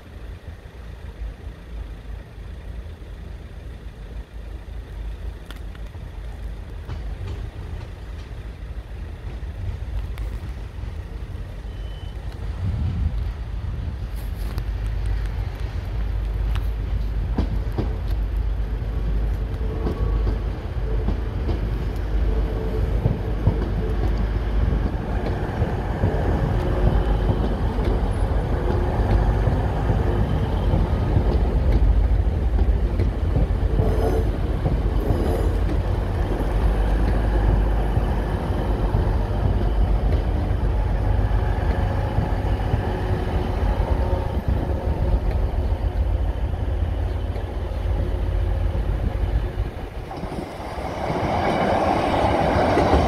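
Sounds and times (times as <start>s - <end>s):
diesel train engine rumble: 0.0s - 53.0s
train wheels clattering over track: 4.7s - 53.0s.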